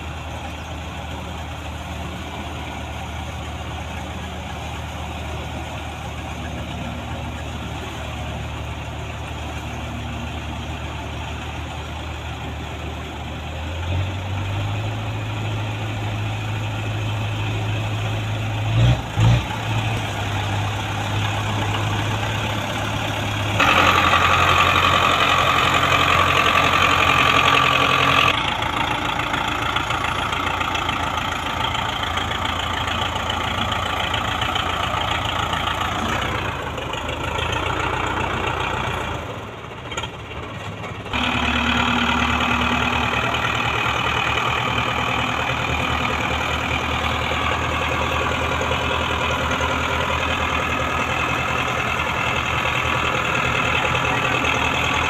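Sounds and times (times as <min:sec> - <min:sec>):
diesel tractor engines running: 0:00.0 - 0:55.0.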